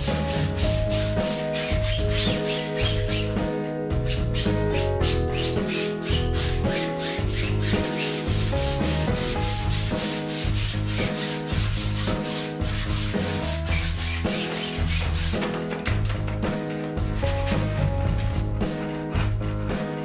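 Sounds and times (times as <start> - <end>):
paintbrush scrubbing canvas: 0.0 - 19.2
music with pulsing bass: 0.0 - 20.0.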